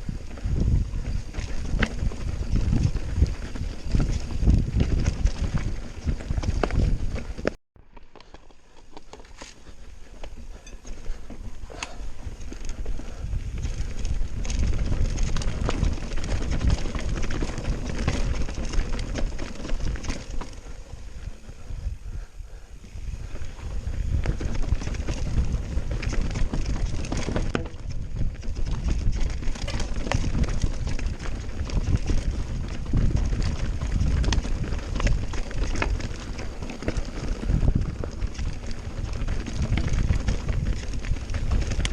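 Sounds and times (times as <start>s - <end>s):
wind on microphone: 0.0s - 7.6s, 10.1s - 41.9s
bike rattling with knocks: 0.0s - 20.9s, 23.2s - 41.9s
bike tyres rumbling over ground: 0.0s - 41.9s.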